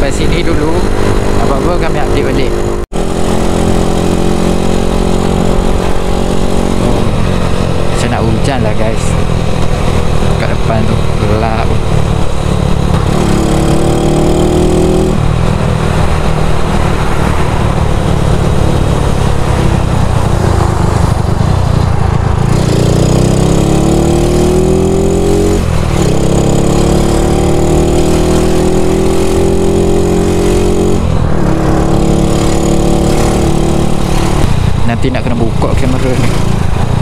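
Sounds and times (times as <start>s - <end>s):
wind rush on microphone: 0.0s - 26.5s, 27.2s - 37.0s.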